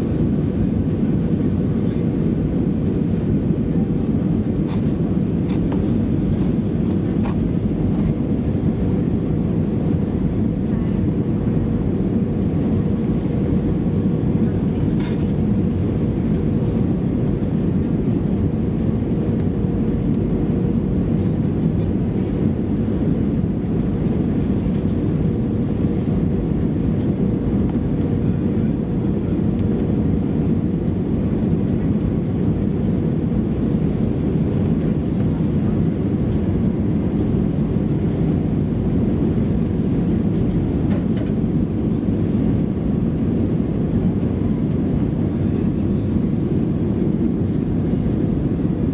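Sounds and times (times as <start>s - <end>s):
airplane engines and airflow roar: 0.0s - 48.9s.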